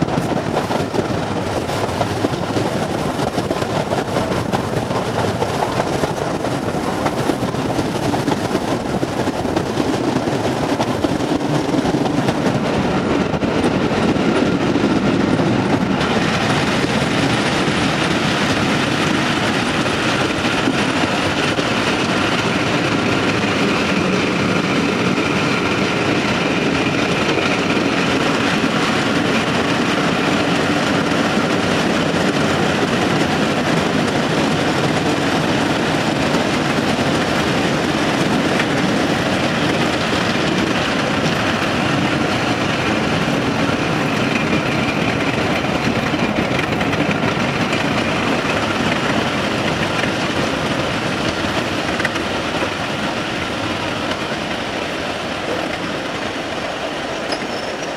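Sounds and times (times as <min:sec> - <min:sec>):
train wheels clicking over rail joints: 0:00.0 - 0:57.9.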